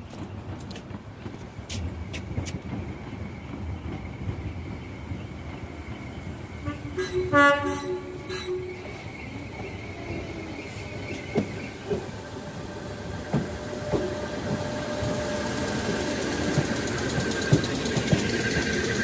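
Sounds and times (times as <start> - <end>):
train mechanical hum: 0.0 - 19.0.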